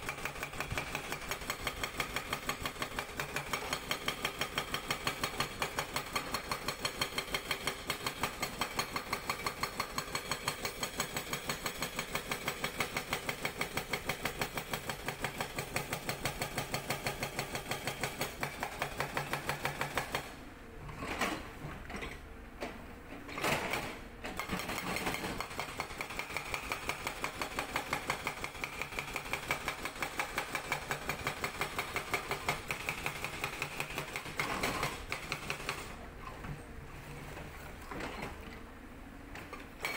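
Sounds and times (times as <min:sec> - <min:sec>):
hydraulic breaker hammering rock: 0:00.0 - 0:20.3, 0:23.4 - 0:35.9.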